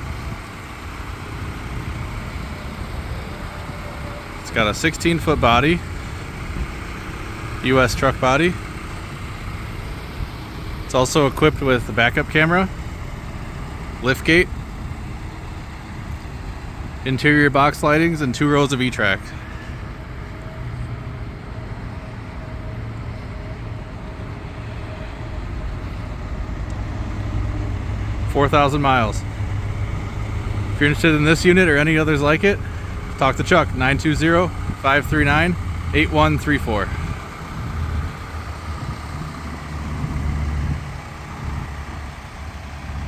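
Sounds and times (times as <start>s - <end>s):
diesel truck engine idling: 0.0s - 43.0s.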